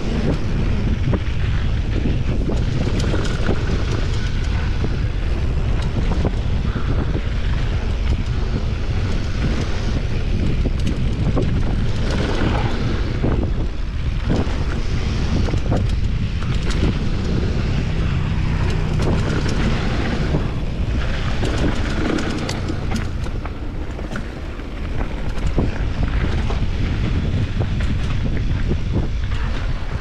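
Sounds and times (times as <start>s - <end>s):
bike clicks and rattles: 0.0s - 30.0s
tyres rumbling on gravel: 0.0s - 30.0s
wind buffeting microphone: 0.0s - 30.0s.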